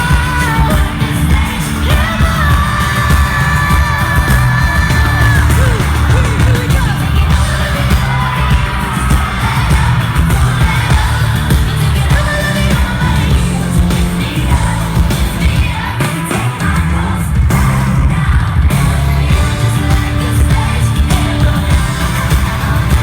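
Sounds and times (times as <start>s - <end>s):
audience yelling: 0.0s - 23.0s
heavy bass beat: 0.0s - 23.0s
live pop song over pa: 0.0s - 23.0s
women singing: 0.0s - 23.0s.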